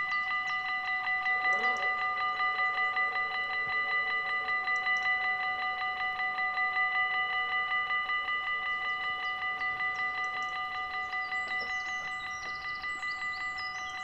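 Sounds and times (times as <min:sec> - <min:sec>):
level-crossing warning bell ringing: 0:00.0 - 0:14.0.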